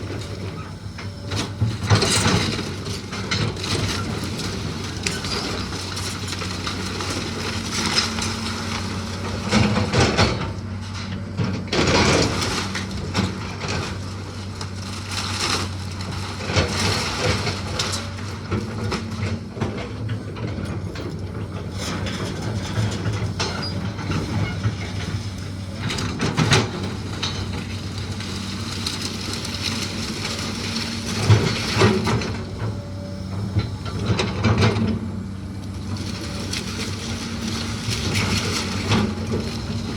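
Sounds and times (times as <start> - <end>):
machine engine running: 0.0 - 39.9.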